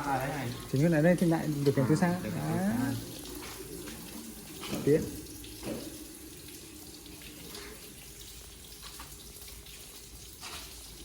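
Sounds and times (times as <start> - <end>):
cooling water rushing: 0.0 - 11.0.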